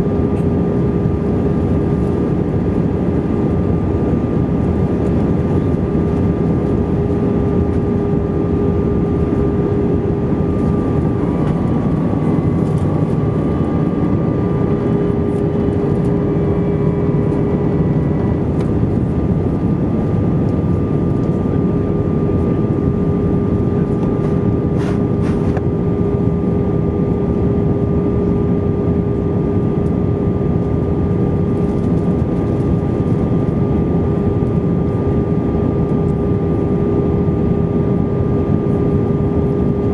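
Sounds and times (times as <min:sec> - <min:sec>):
aircraft engines and airflow drone: 0:00.0 - 0:39.9
constant hum tone: 0:00.0 - 0:39.9.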